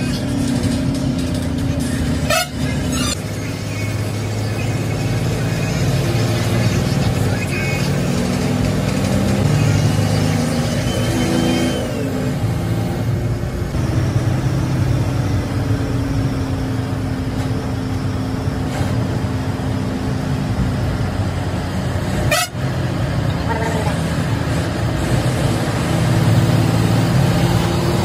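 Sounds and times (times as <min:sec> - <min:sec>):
bus diesel engine running: 0:00.0 - 0:28.0
road noise: 0:00.0 - 0:28.0.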